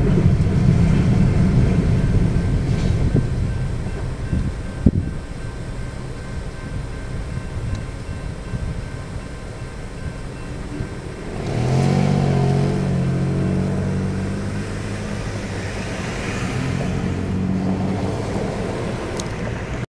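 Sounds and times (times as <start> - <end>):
car engine pulling away: 0.0 - 6.4, 7.6 - 19.8
road hiss: 0.0 - 19.8.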